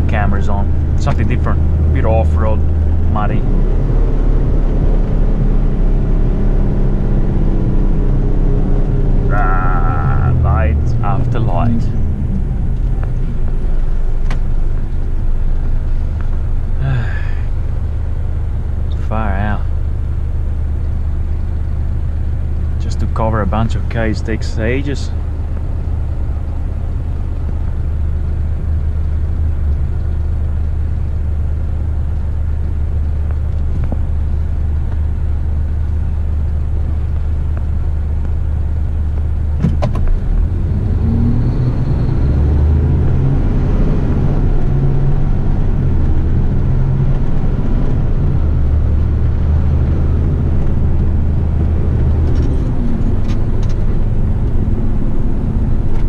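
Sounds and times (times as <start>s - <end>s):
truck diesel engine: 0.0s - 56.0s.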